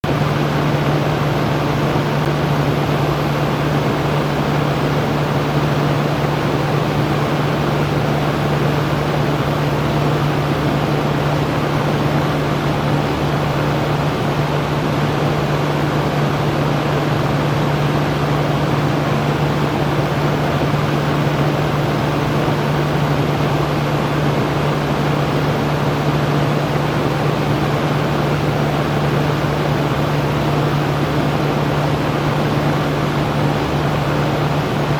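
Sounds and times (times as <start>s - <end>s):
electric fan running: 0.0s - 34.9s.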